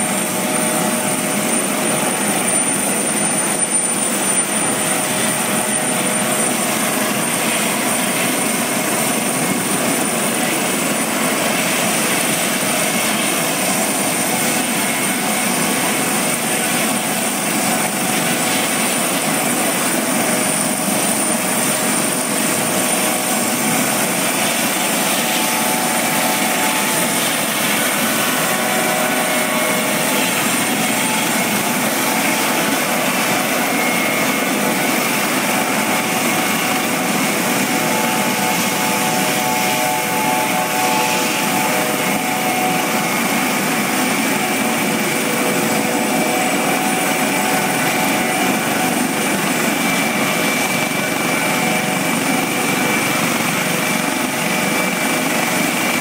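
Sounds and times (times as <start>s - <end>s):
helicopter rotor and engine noise: 0.0s - 56.0s
high turbine whine: 0.0s - 56.0s.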